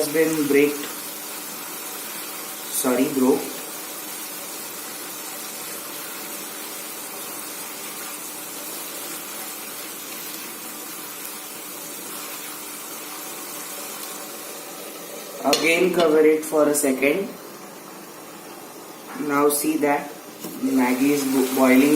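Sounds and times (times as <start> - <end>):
noodles boiling in a pan: 0.0 - 21.9.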